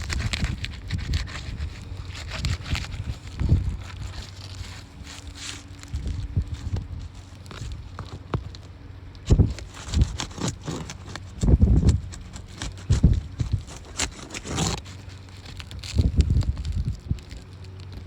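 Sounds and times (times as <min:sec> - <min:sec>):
knocks and scrapes on roof shingle: 0:00.0 - 0:08.7, 0:09.3 - 0:18.0.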